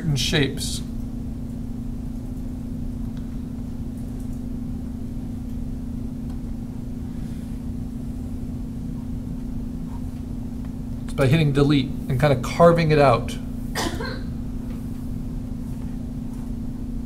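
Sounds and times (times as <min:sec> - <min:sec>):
electrical hum with low rumble: 0:00.0 - 0:17.0.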